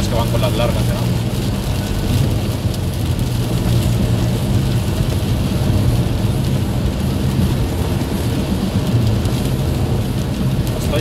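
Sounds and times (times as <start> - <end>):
car interior drone: 0.0 - 11.0.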